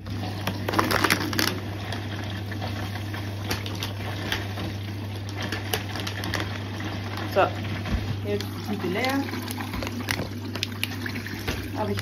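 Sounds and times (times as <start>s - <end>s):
inlet valve hum: 0.0s - 12.0s.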